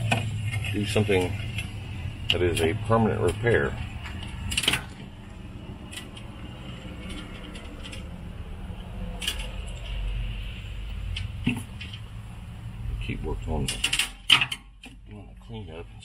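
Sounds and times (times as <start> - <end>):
thin wires clicking and rustling: 0.0 - 8.5, 9.1 - 12.2, 13.6 - 15.1
compressor humming: 0.0 - 15.2.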